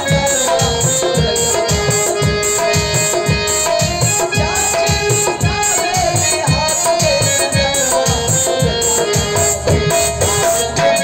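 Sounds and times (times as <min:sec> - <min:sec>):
hand drum rhythm: 0:00.0 - 0:11.0
keyboard melody: 0:00.0 - 0:11.0.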